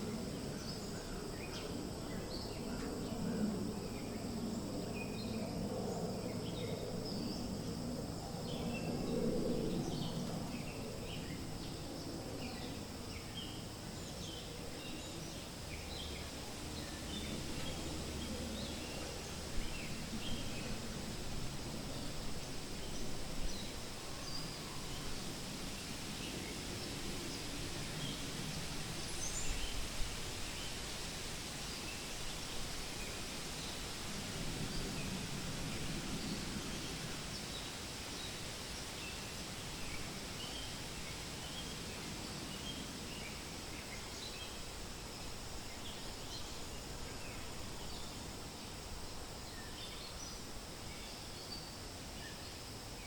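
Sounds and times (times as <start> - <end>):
wind rustling through leaves: 0.0 - 53.0.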